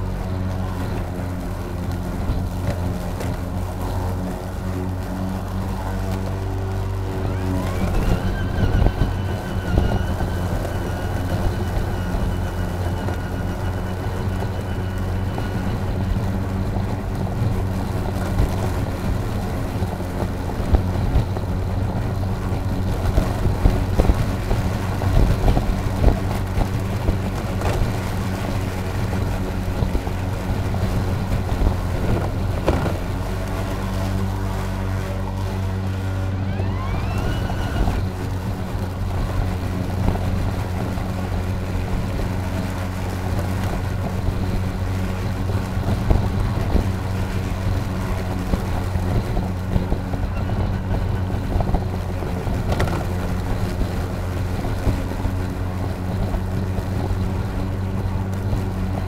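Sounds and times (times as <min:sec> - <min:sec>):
high whine: 0:00.0 - 0:59.0
lawn mower motor and blade hum: 0:00.0 - 0:59.0.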